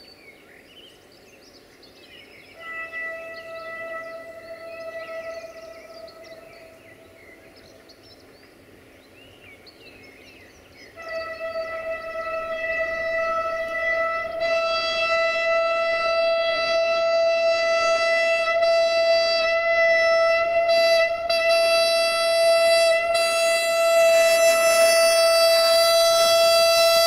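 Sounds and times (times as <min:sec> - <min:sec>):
train horn: 0:02.5 - 0:08.0, 0:10.0 - 0:27.0.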